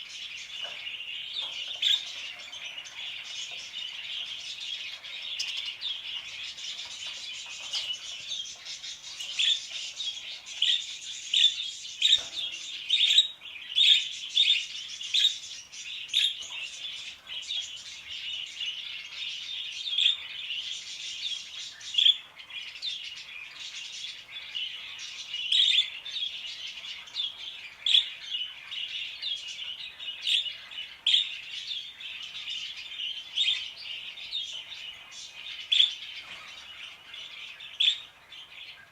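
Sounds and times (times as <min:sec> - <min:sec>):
parakeets chirping: 0:00.0 - 0:38.9.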